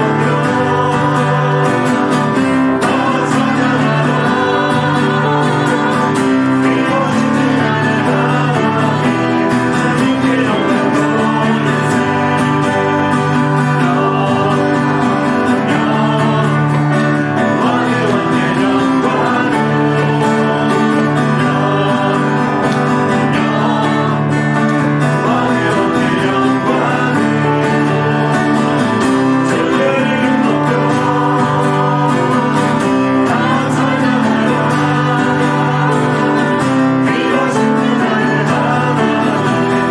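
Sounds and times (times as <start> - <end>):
guitar-led band playing: 0.0 - 39.9
people singing: 0.0 - 39.9.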